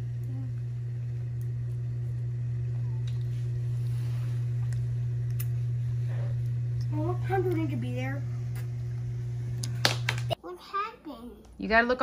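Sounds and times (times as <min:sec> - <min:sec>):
low motor hum: 0:00.0 - 0:10.4.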